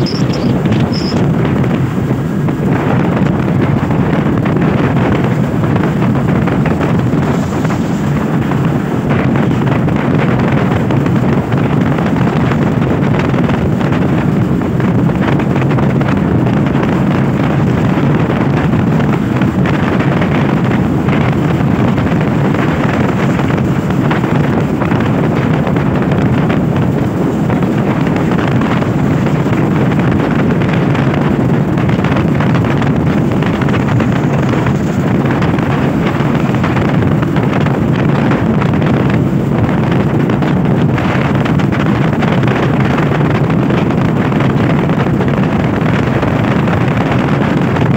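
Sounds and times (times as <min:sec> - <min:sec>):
motorcycle running: 0:00.0 - 0:47.9
wind buffeting microphone: 0:00.0 - 0:47.9.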